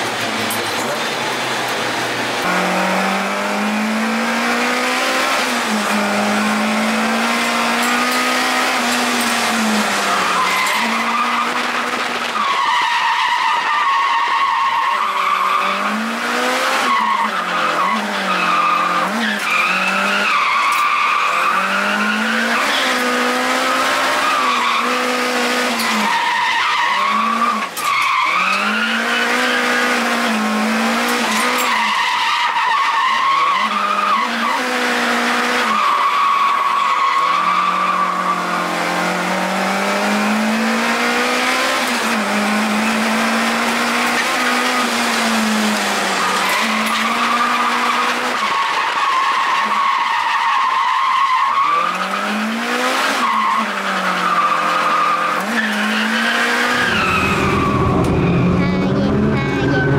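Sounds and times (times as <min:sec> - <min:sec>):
car engine revving hard: 0:00.0 - 0:59.9
tyres skidding and squealing: 0:00.0 - 0:59.9.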